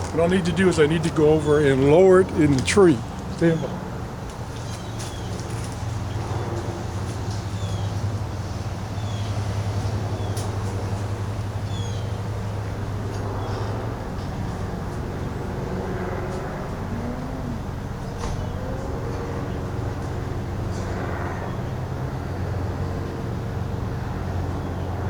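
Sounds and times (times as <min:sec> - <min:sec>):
propeller airplane engine droning: 0:00.0 - 0:25.0.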